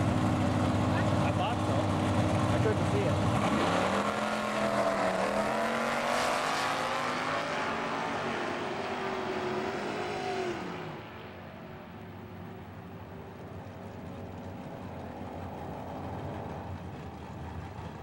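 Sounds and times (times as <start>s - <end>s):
drag racing cars accelerating: 0.0s - 18.0s.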